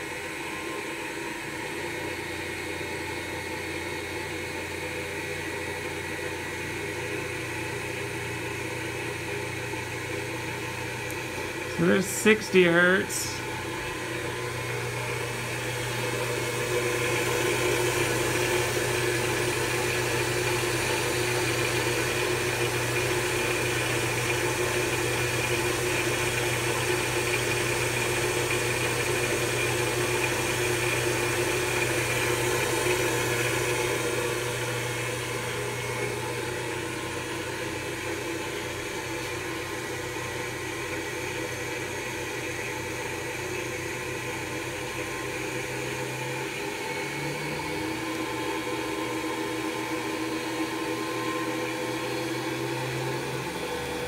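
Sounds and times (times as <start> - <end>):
mill motor hum with whine: 0.0 - 54.0.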